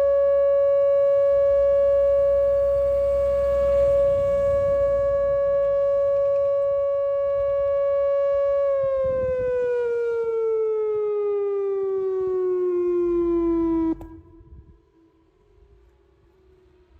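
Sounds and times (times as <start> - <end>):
faint echo of siren tone: 0.0 - 16.9
warning siren winding down: 0.0 - 16.9.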